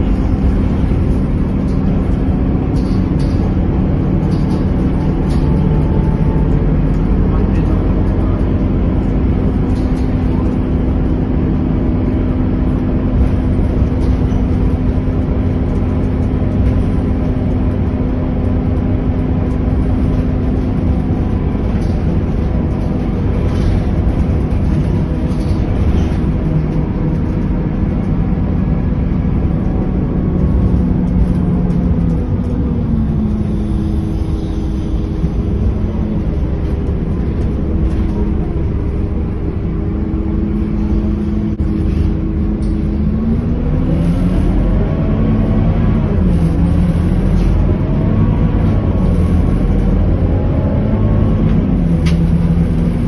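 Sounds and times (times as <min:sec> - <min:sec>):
bus diesel engine running: 0:00.0 - 0:53.0
road and tyre noise: 0:00.0 - 0:53.0.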